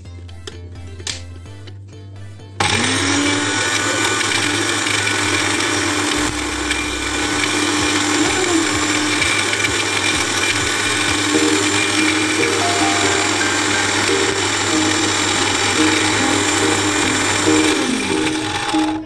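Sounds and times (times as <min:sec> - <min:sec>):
blender motor whining: 0:02.6 - 0:19.0.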